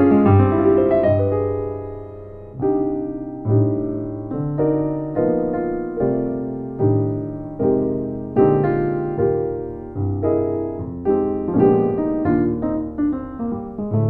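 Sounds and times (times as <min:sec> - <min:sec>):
deep piano bass note: 0:00.0 - 0:14.0
piano jazz chords: 0:00.0 - 0:14.0.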